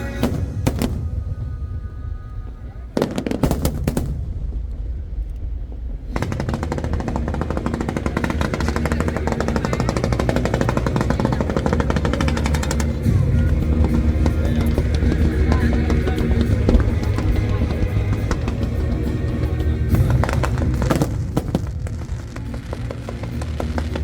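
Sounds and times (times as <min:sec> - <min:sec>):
background music: 0:00.0 - 0:24.0
fireworks bangs: 0:00.0 - 0:24.0
fireworks crackling: 0:00.0 - 0:24.0.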